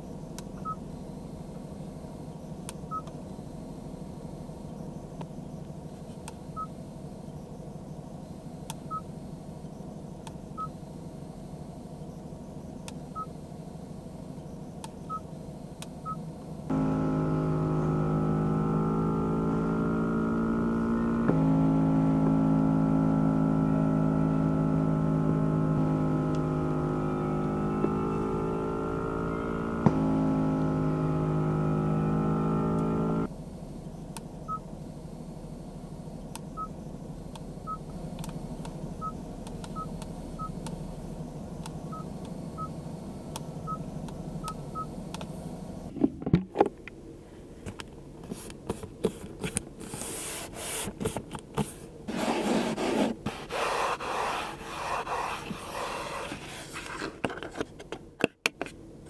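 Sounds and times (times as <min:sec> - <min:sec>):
steady humming tone: 0:00.0 - 0:49.9.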